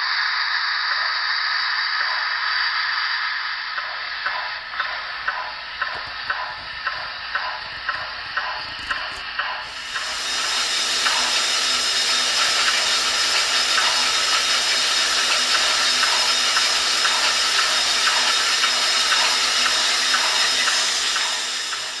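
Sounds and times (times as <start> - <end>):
model steam locomotive chuffs: 0.0 - 22.0
steam hiss: 0.0 - 22.0.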